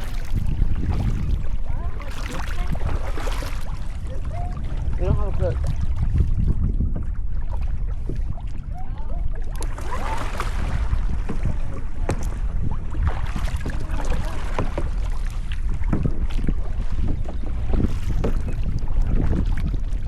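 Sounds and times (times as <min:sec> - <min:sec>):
kayak paddle splashing water: 0:00.0 - 0:20.0
wind rumbling on microphone: 0:00.0 - 0:20.0.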